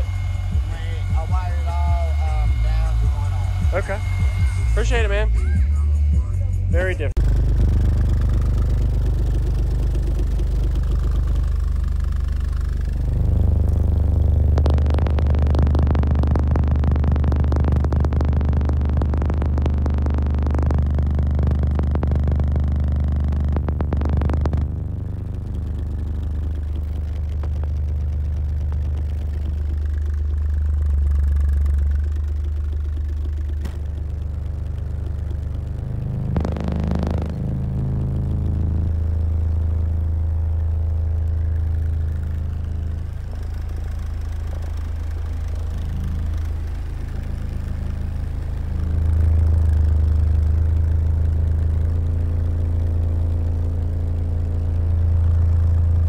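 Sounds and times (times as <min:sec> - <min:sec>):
deep bass test tones: 0:00.0 - 0:56.0.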